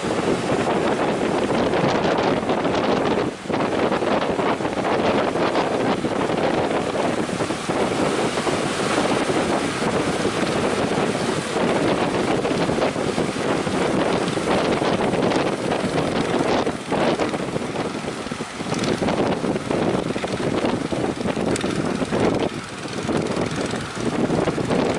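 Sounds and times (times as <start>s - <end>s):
surf breaking: 0.0s - 24.9s
wind buffeting microphone: 0.0s - 24.9s.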